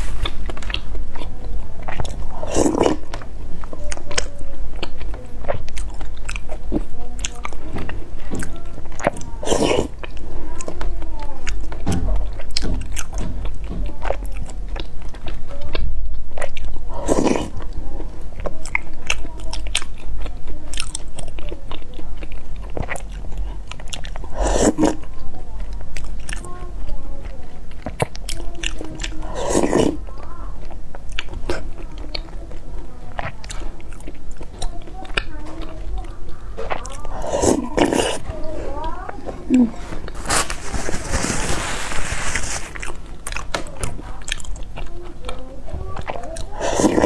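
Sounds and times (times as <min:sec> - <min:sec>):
wet chewing mouth clicks: 0:00.0 - 0:40.2, 0:42.7 - 0:47.0
loud long chewing sounds: 0:00.0 - 0:47.0.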